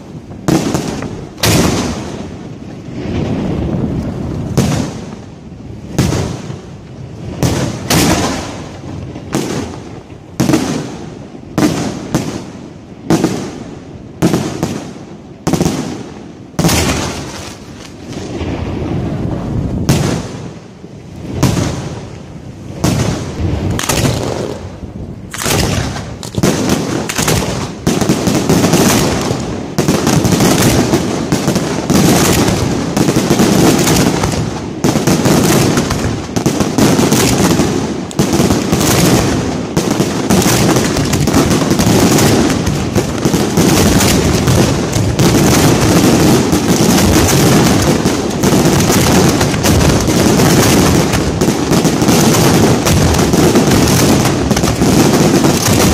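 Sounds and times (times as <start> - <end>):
fireworks bangs: 0.0 - 55.9.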